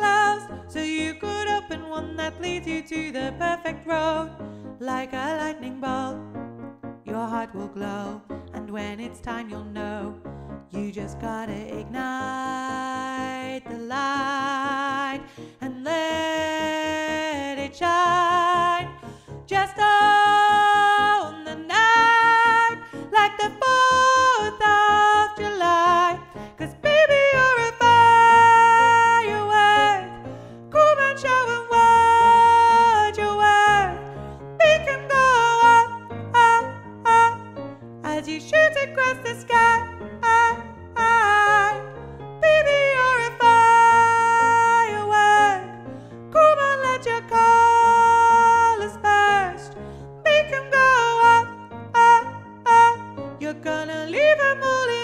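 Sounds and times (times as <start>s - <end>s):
alto voice singing: 0.0s - 6.2s, 10.8s - 55.0s
piano chords: 0.0s - 55.0s.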